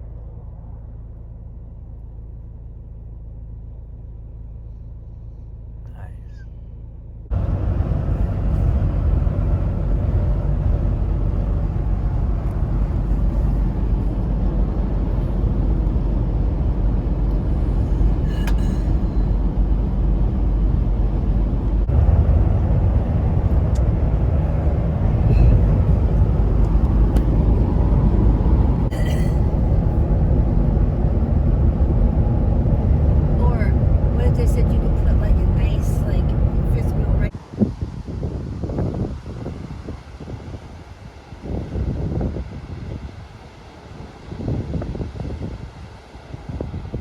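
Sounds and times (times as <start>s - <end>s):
vehicle driving rumble: 0.0s - 47.0s.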